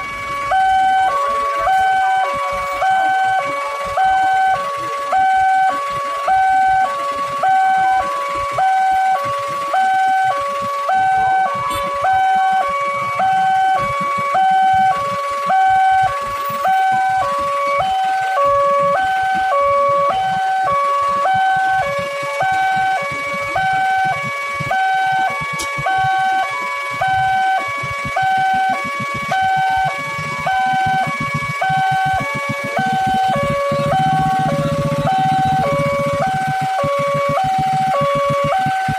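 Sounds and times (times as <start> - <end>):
level-crossing warning alarm: 0.0 - 38.9.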